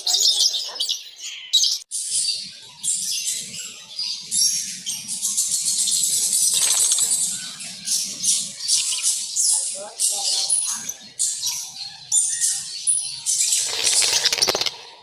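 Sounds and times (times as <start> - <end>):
lovebirds chattering: 0.0 - 15.0.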